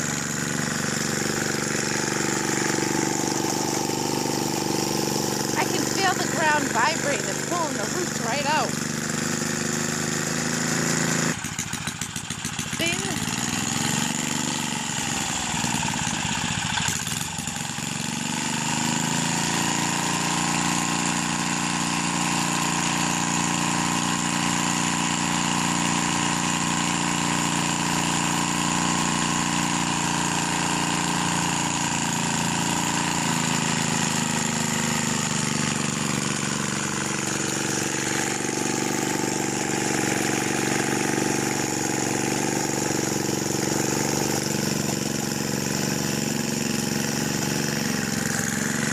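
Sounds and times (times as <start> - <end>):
small tiller engine running: 0.0 - 48.9.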